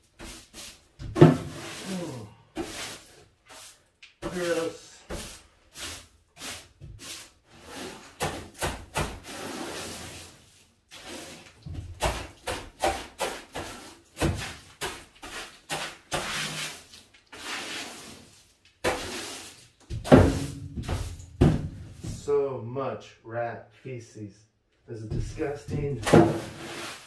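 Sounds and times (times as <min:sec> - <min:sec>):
broom sweeping floor: 0:00.0 - 0:22.4, 0:25.0 - 0:27.0.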